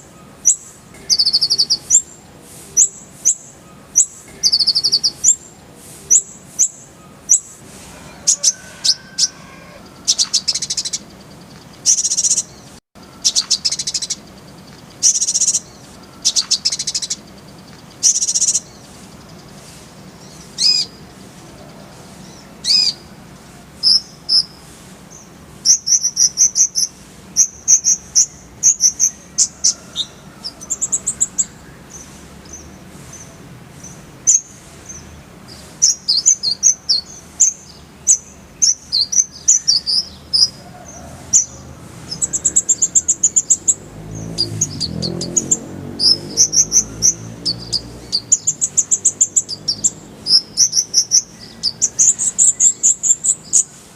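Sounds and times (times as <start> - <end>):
bird chirps and buzzy trills: 0.0 - 53.9.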